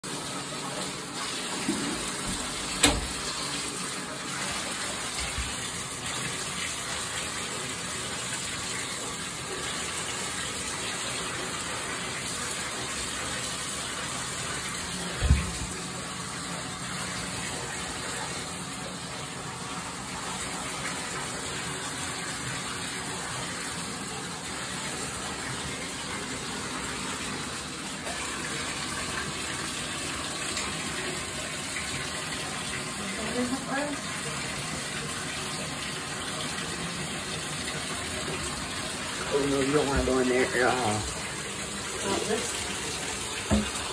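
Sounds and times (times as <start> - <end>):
water running from bathtub tap: 0.0 - 43.9.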